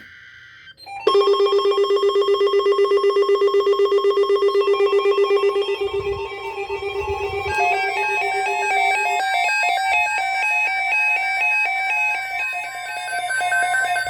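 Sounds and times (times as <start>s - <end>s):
pulsing electronic alert tone: 0.0s - 14.0s
stepping electronic notes: 0.0s - 14.0s.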